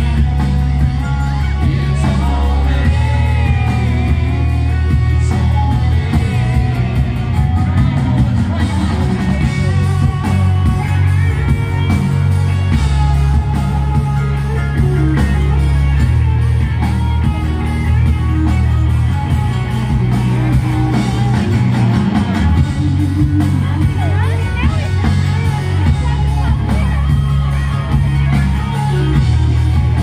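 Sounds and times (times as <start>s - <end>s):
bass and drums: 0.0s - 30.0s
electric guitars: 0.0s - 30.0s.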